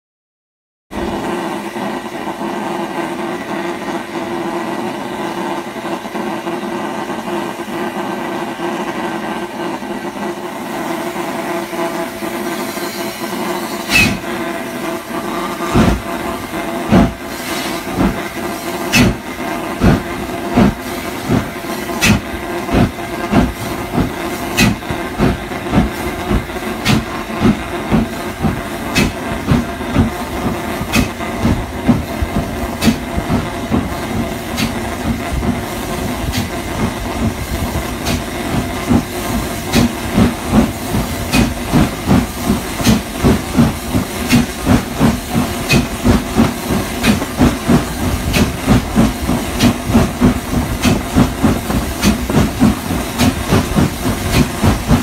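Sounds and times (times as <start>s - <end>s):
steam locomotive exhaust beats: 0.9s - 55.0s
steam hiss: 9.0s - 55.0s.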